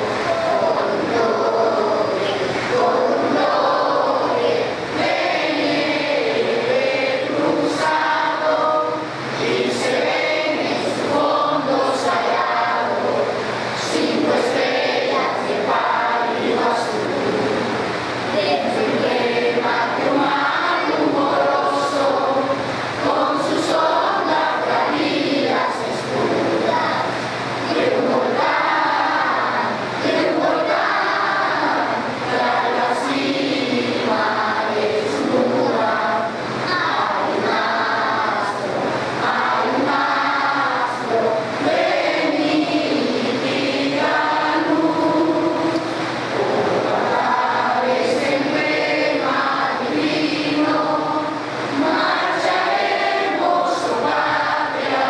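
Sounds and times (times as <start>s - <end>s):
crowd singing an anthem: 0.0s - 55.0s.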